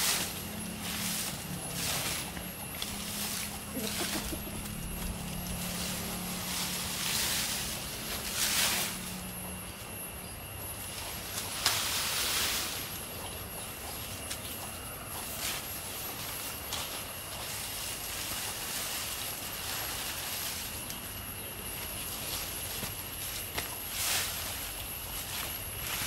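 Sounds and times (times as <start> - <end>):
footsteps through undergrowth: 0.0 - 10.0, 10.7 - 26.0
leafy branches rustling: 0.0 - 26.0.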